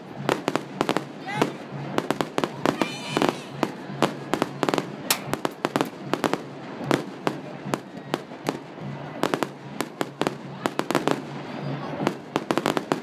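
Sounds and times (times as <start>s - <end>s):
fireworks bursting with sharp bangs: 0.0s - 13.0s.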